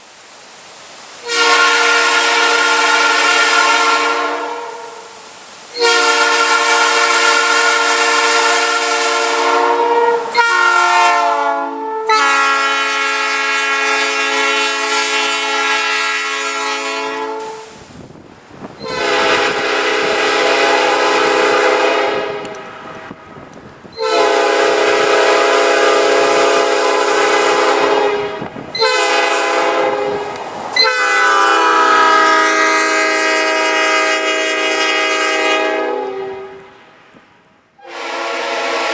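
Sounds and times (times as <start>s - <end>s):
locomotive air horn chord: 1.2s - 17.8s, 18.8s - 23.4s, 24.0s - 36.9s, 37.8s - 38.9s.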